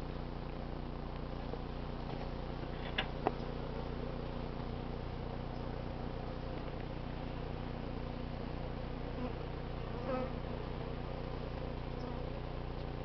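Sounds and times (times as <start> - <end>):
honey bees humming: 0.0 - 13.0.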